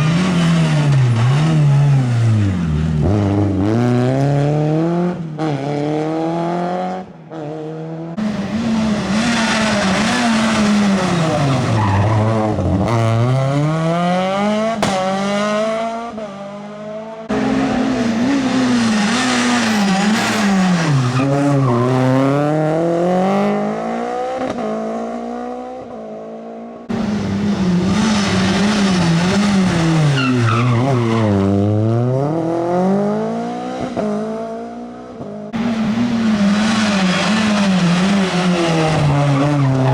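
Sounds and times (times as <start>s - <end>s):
rally car engines accelerating: 0.0s - 39.9s.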